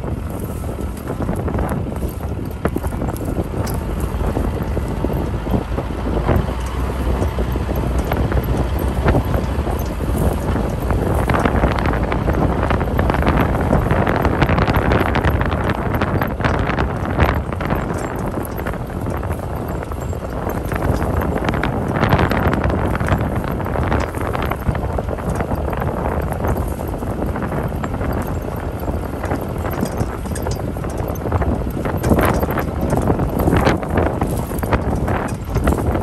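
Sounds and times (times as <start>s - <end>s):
vehicle knocks and rattles: 0.0s - 36.0s
wind buffeting microphone: 0.0s - 36.0s.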